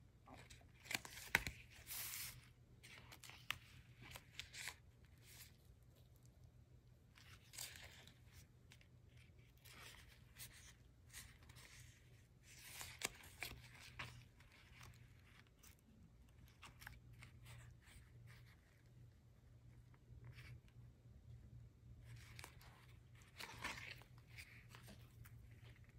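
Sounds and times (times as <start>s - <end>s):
low steady hum: 0.0s - 25.9s
paper pages rustling: 0.3s - 6.1s, 7.1s - 19.0s, 22.0s - 25.9s.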